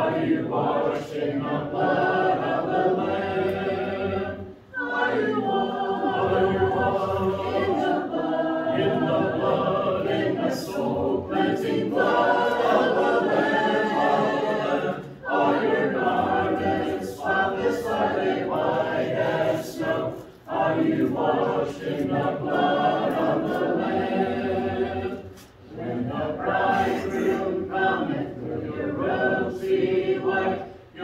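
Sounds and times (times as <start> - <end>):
congregation singing a hymn: 0.0 - 31.0.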